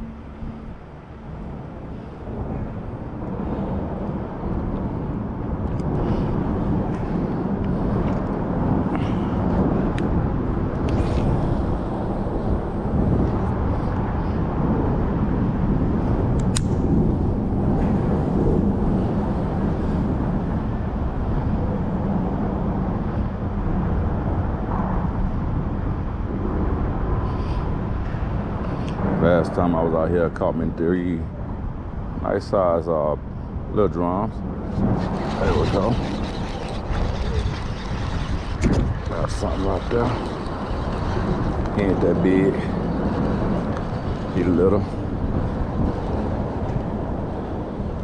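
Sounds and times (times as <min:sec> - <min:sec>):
road traffic rumble: 0:00.0 - 0:24.2, 0:26.0 - 0:48.0.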